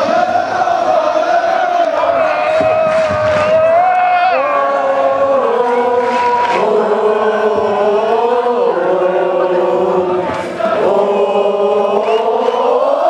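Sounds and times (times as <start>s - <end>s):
crowd singing a chant: 0.0s - 13.0s.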